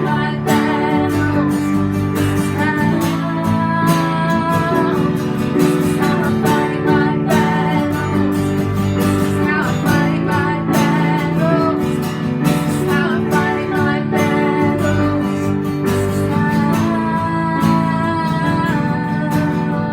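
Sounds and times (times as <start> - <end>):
acoustic guitar music: 0.0 - 19.9.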